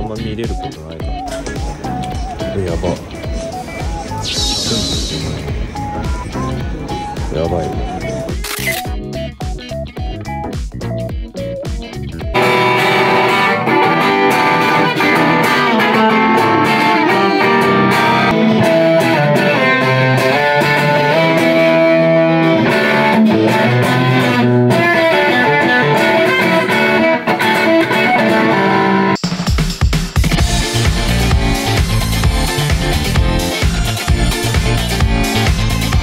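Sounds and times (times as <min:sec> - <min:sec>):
overdriven electric guitar: 0:01.1 - 0:29.2, 0:30.3 - 0:36.0.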